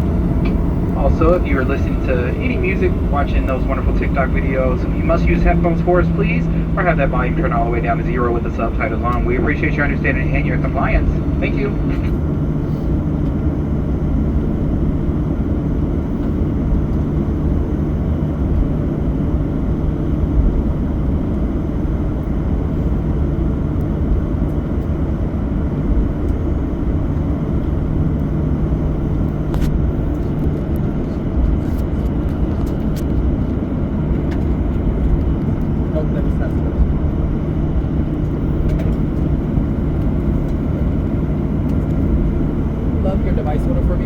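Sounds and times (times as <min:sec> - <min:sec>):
aircraft cabin rumble: 0:00.0 - 0:44.0.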